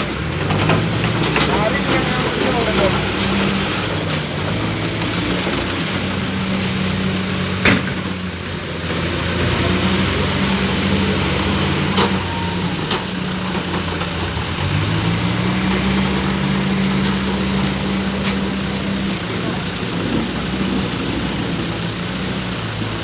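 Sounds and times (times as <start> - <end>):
diesel engine under load: 0.0 - 23.0.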